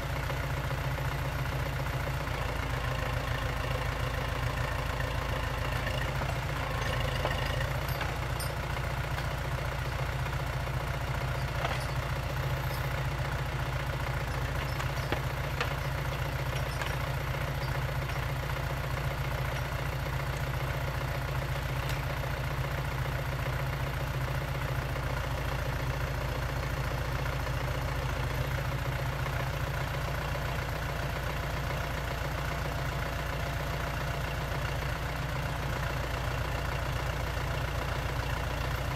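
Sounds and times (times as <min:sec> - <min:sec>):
excavator engine humming: 0:00.0 - 0:38.9.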